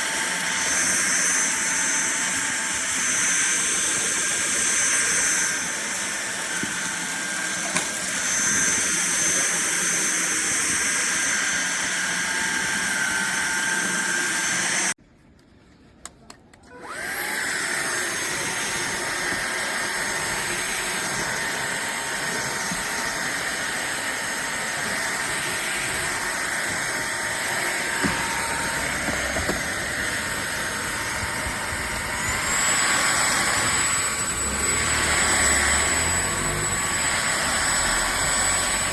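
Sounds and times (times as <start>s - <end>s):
vacuum cleaner motor whine: 0.0s - 15.0s, 16.7s - 38.9s.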